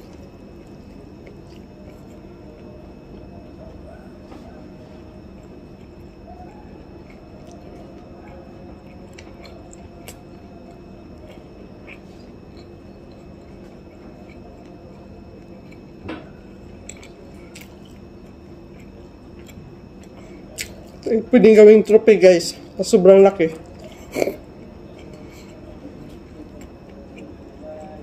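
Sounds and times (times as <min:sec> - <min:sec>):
person chewing: 0:00.0 - 0:21.2, 0:23.6 - 0:28.0
low background hum: 0:00.0 - 0:28.0.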